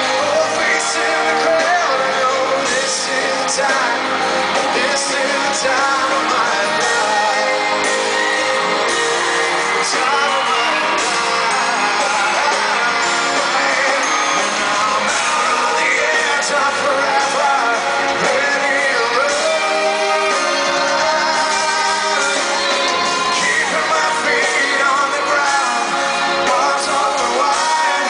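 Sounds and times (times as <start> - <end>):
live pop-rock band: 0.0 - 28.0
man singing: 0.0 - 28.0.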